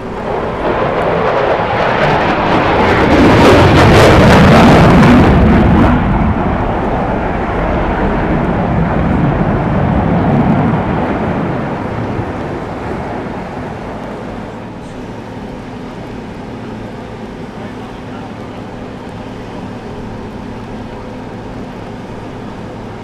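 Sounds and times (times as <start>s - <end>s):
aircraft engine roar: 0.0s - 23.0s.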